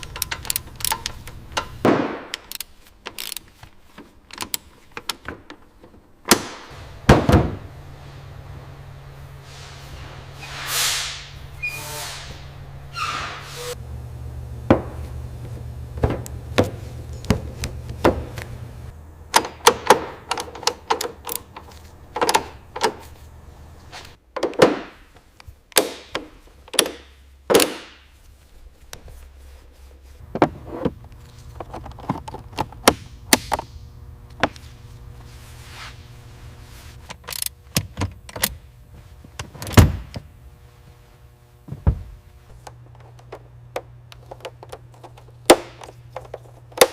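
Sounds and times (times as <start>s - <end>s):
low steady hum: 0.0s - 24.3s, 25.1s - 46.9s.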